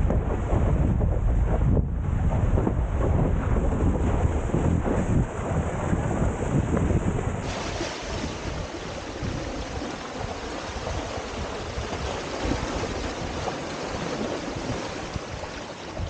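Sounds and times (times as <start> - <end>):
wind buffeting microphone: 0.0 - 16.0
water rushing and splashing: 2.3 - 16.0.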